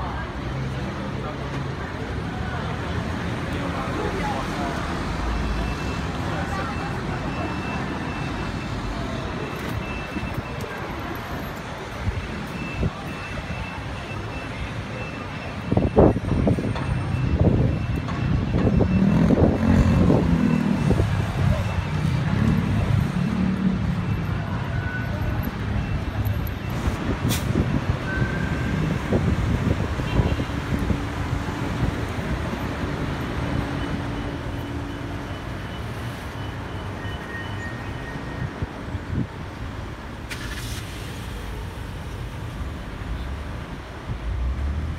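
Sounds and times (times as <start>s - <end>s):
city street traffic: 0.0s - 44.9s.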